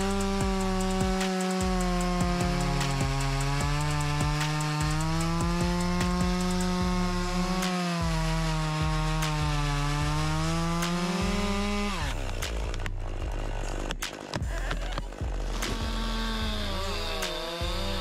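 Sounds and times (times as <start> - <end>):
chainsaw cutting tree trunk: 0.0 - 18.0.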